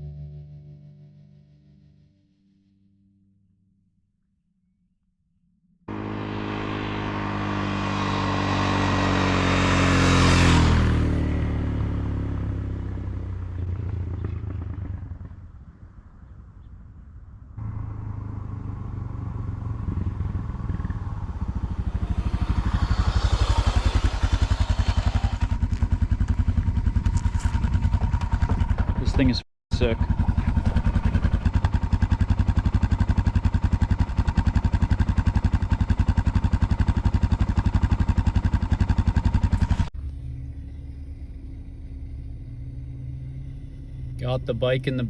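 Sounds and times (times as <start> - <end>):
motorcycle engine revving: 5.9 - 16.1, 17.6 - 45.0.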